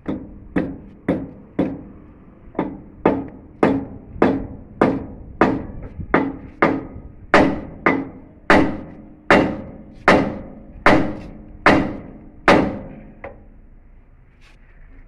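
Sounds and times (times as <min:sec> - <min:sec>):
heavy hammer striking steel: 0:00.0 - 0:13.5.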